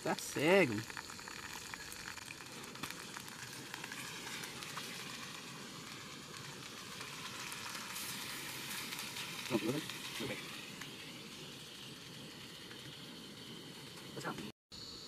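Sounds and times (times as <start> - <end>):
sausages sizzling in a pan: 0.0 - 15.0.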